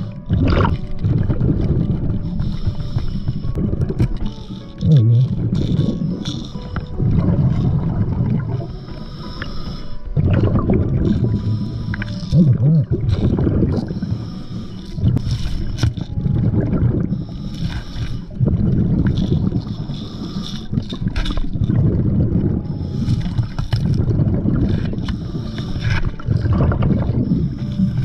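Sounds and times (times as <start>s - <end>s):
exhaust bubbles rumbling: 0.0s - 2.4s, 3.3s - 8.8s, 10.1s - 14.2s, 15.0s - 17.4s, 18.2s - 19.9s, 20.7s - 28.0s.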